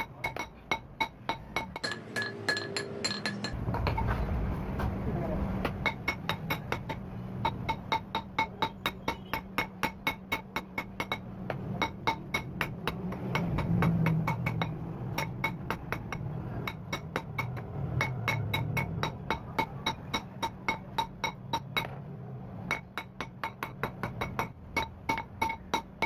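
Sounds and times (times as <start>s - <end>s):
hammer striking steel on anvil: 0.0s - 4.2s, 5.6s - 22.0s, 22.6s - 26.0s.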